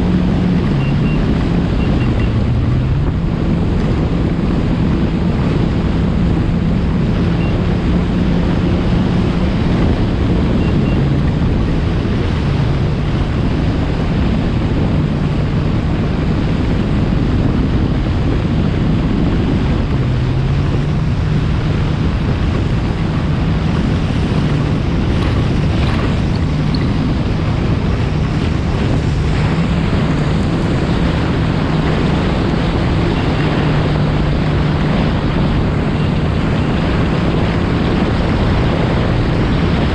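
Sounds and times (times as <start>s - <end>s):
jet ski engine running: 0.0s - 39.9s
water rushing past hull: 0.0s - 39.9s
wind on microphone: 0.0s - 39.9s.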